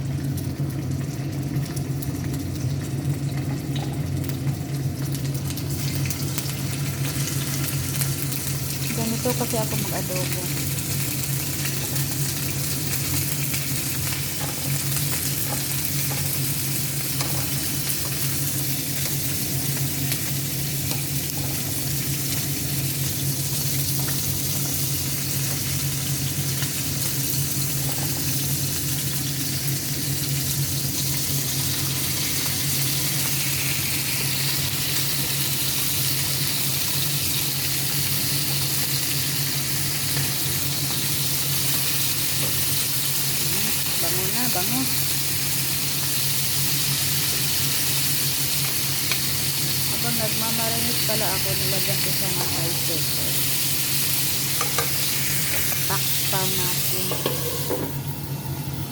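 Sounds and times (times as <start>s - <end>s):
chicken sizzling in oil: 0.0s - 58.9s.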